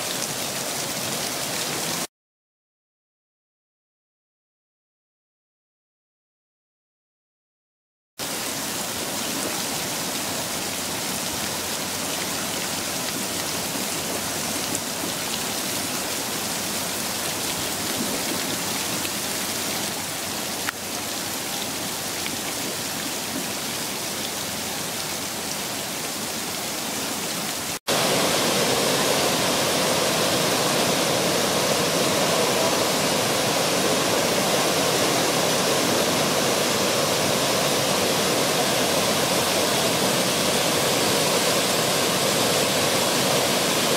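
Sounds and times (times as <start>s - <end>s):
fountain water splashing: 0.0s - 2.1s, 8.2s - 43.9s
water cascade pouring: 0.0s - 2.1s, 8.2s - 43.9s.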